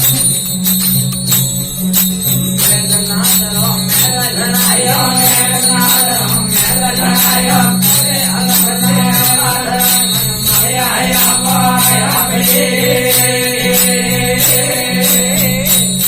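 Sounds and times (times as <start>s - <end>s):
jingling percussion: 0.0s - 16.0s
low drone: 0.0s - 16.0s
wavering melody: 0.0s - 16.0s.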